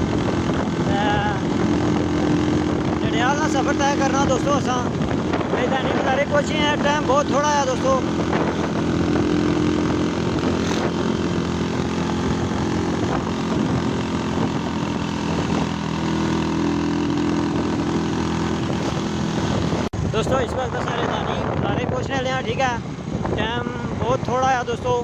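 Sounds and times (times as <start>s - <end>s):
vehicle engine running: 0.0s - 20.1s
road and wind noise: 0.0s - 25.0s.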